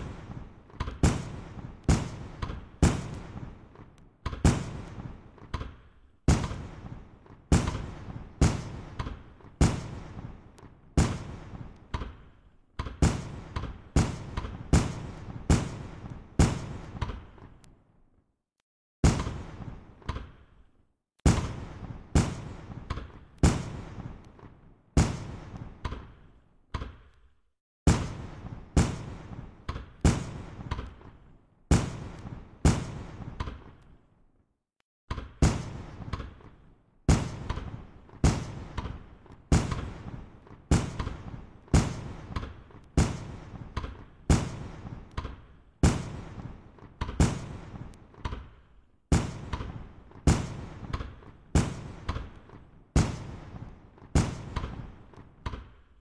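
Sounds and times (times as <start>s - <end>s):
fireworks banging: 0.0s - 17.6s, 19.0s - 27.1s, 27.9s - 33.8s, 35.1s - 48.2s, 49.1s - 55.8s.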